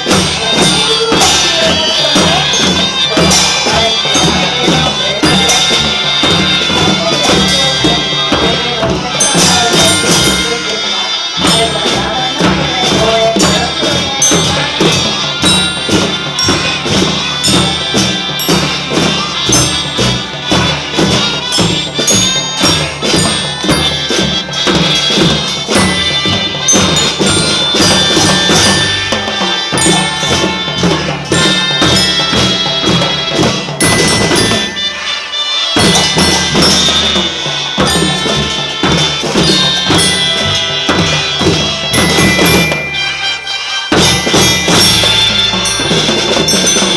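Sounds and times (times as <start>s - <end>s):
children's marching band playing: 0.0s - 46.9s.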